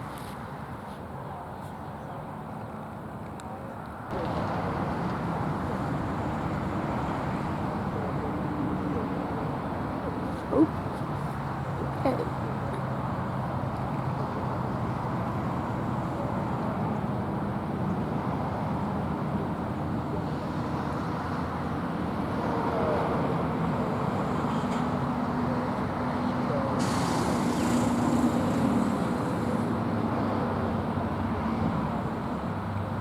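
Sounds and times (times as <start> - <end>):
rumble of passing traffic: 0.0 - 33.0.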